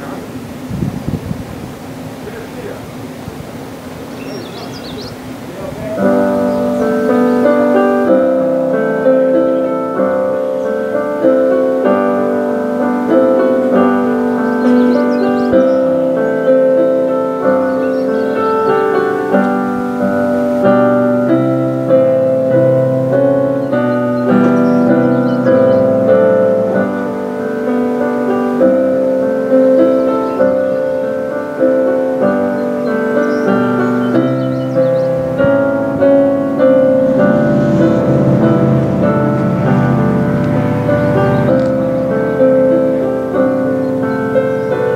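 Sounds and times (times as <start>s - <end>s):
slow piano piece: 0.0s - 44.9s.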